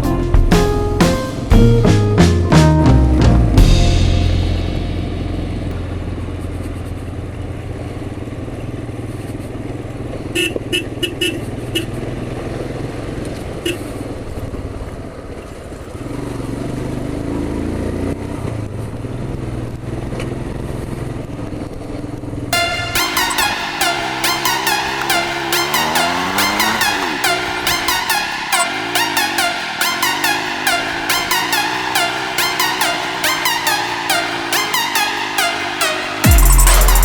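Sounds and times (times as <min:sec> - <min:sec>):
motorcycle engine running: 0:03.6 - 0:37.0.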